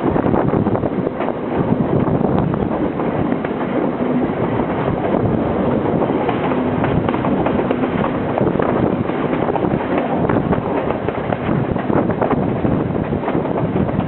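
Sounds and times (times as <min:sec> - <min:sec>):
train rushing noise: 0:00.0 - 0:14.0
wheels knocking on rails: 0:00.8 - 0:14.0.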